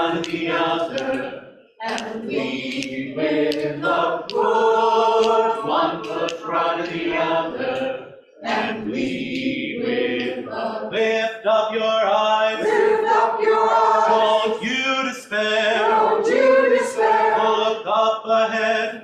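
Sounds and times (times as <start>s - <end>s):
choir singing in harmony: 0.0s - 19.0s.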